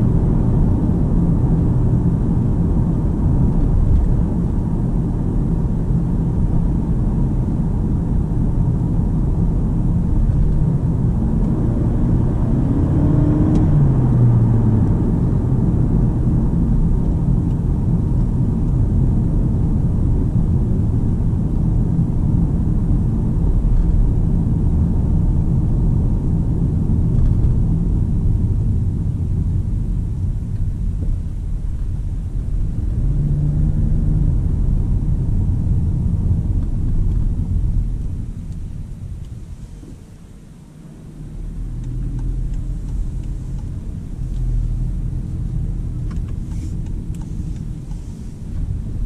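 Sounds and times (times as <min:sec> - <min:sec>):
road and drivetrain rumble: 0:00.0 - 0:49.0.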